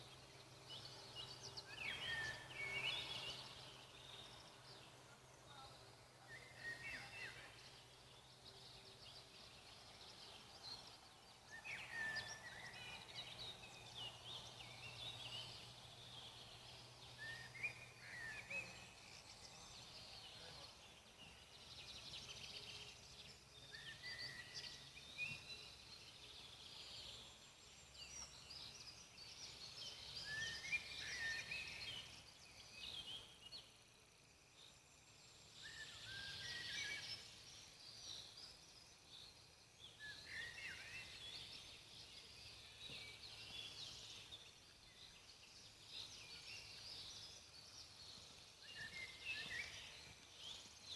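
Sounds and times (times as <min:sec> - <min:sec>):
songbirds chirping and whistling: 0:00.0 - 0:04.6, 0:06.2 - 0:33.8, 0:35.5 - 0:50.9
forest ambience hiss: 0:09.3 - 0:50.9.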